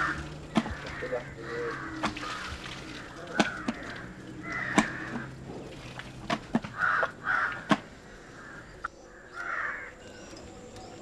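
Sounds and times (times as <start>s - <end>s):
crows cawing: 0.0s - 5.5s, 6.6s - 10.0s.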